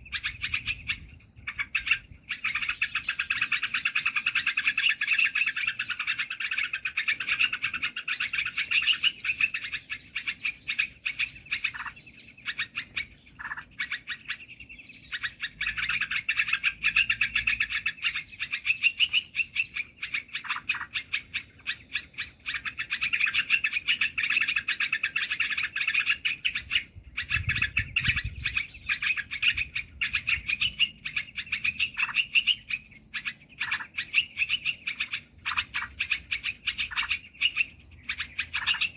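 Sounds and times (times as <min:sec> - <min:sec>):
rapid bird chattering: 0:00.0 - 0:38.9.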